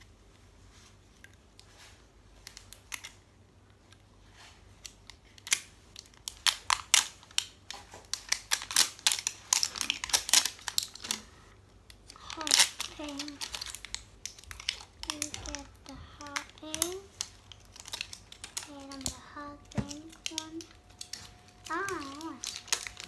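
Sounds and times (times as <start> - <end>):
wrapping crackling and crinkling: 0.7 - 23.0.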